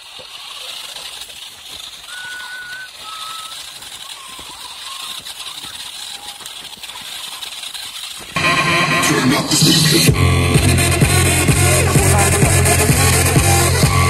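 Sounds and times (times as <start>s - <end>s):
electric motors humming: 0.0s - 14.0s
wheels rattling over dry soil: 0.0s - 14.0s.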